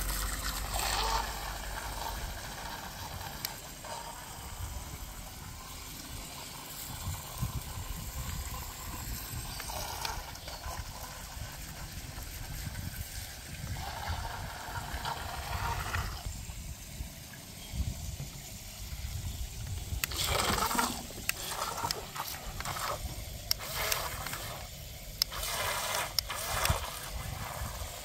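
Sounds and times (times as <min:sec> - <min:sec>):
propellers churning water: 0:00.0 - 0:28.0.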